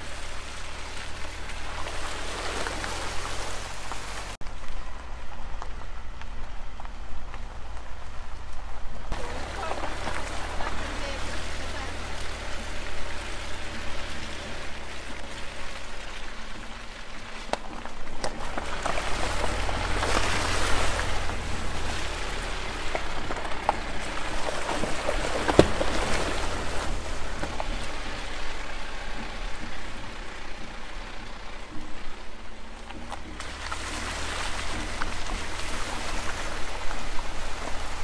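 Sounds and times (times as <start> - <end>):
low engine rumble: 0.0 - 38.0
tyres crunching over gravel: 0.0 - 38.0.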